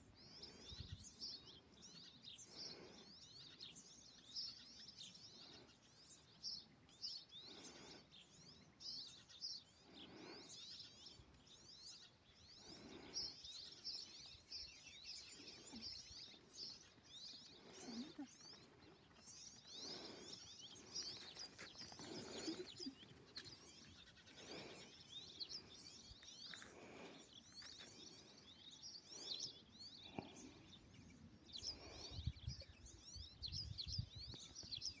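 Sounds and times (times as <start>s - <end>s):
small birds chirping and trilling: 0.0s - 35.0s.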